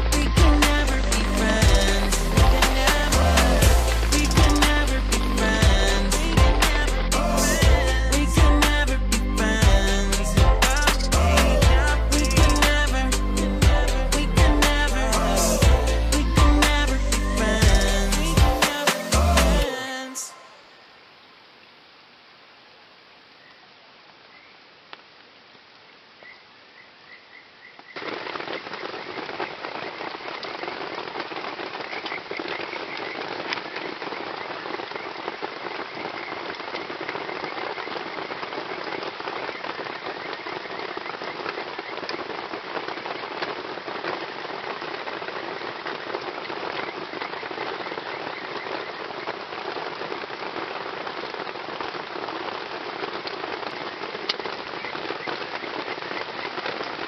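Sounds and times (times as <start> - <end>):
heavy rain falling: 0.0 - 26.1, 28.0 - 57.0.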